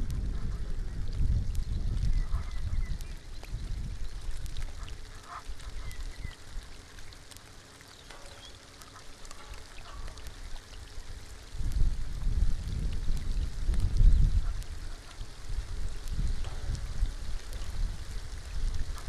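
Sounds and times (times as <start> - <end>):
rain pattering on a pond: 0.0 - 19.0.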